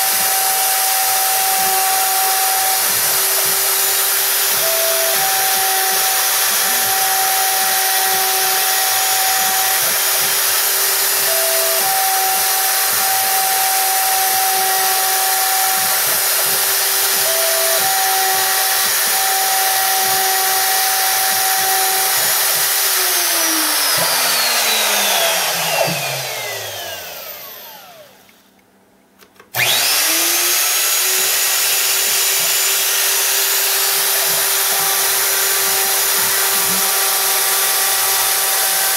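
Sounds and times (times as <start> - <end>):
router spindle whining: 0.0 - 28.4, 29.5 - 38.9.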